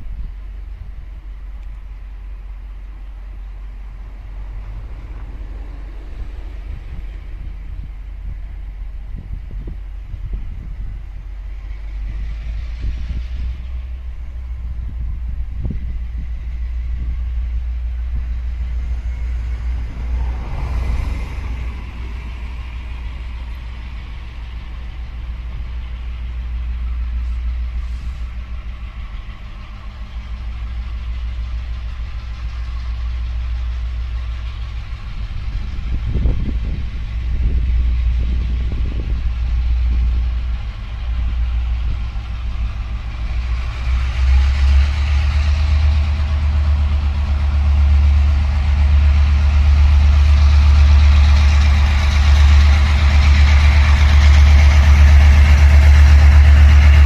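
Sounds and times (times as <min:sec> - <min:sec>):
locomotive engine low drone: 0:00.0 - 0:57.0
train wheels hissing on rails: 0:01.8 - 0:57.0.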